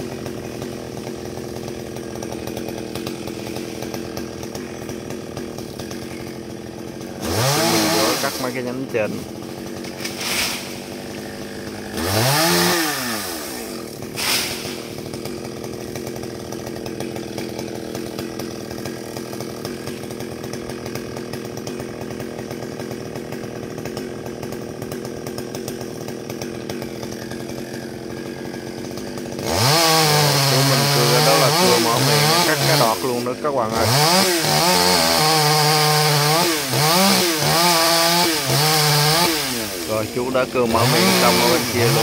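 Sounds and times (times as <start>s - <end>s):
chainsaw cutting into trunk: 0.0s - 42.0s
chainsaw idling and revving: 0.0s - 42.0s.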